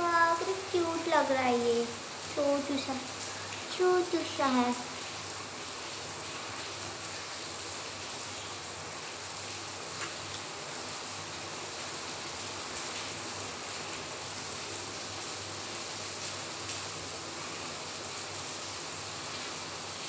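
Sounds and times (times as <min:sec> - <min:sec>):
heavy rain hissing: 0:00.0 - 0:20.0.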